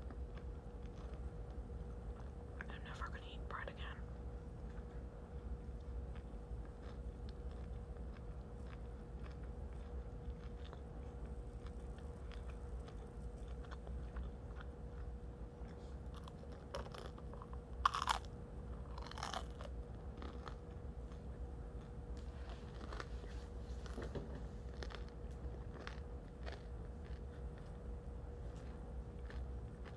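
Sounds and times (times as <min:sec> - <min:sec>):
chewing bread: 0:00.0 - 0:29.9
loud crunches: 0:04.6 - 0:29.9.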